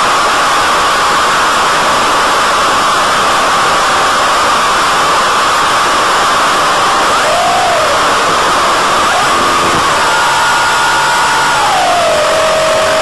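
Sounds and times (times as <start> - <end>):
wind rush and electric motor whine: 0.1 - 13.0.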